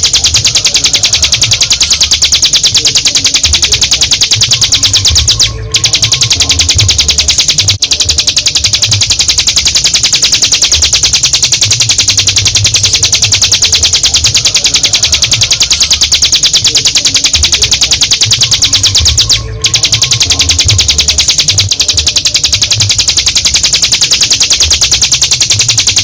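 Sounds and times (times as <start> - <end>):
bird singing rapid trill: 0.0 - 26.0.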